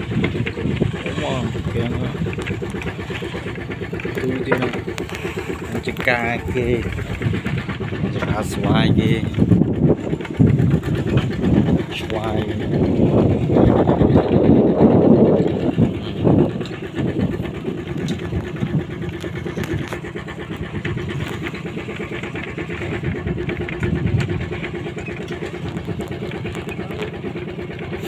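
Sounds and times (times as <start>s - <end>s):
small vehicle engine running: 0.0s - 28.0s.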